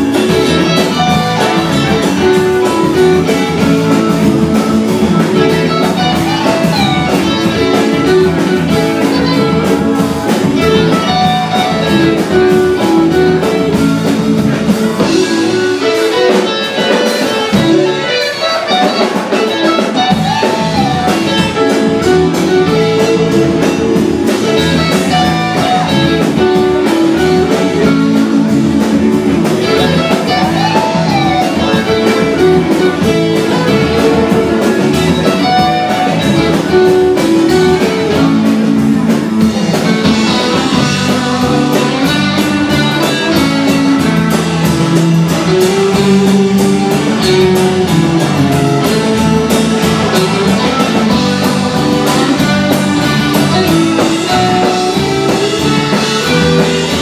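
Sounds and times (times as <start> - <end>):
electric guitar with bent notes: 0.0 - 57.0
live rock band playing: 0.0 - 57.0.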